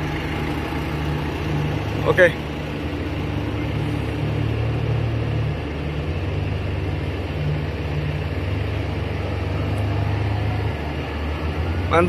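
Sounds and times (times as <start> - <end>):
diesel engines humming: 0.0 - 12.0.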